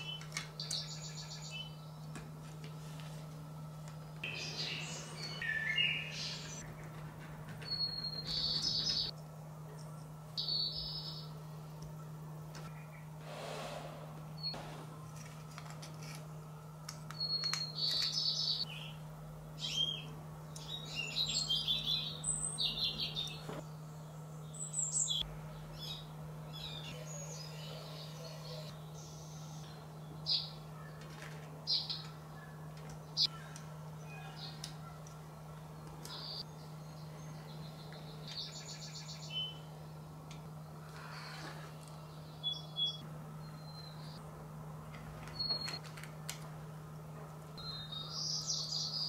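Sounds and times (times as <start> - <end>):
small birds chirping and singing: 0.0 - 2.1, 3.9 - 13.2, 17.1 - 44.2, 45.2 - 45.8, 47.6 - 49.0
steady low hum: 0.0 - 49.0.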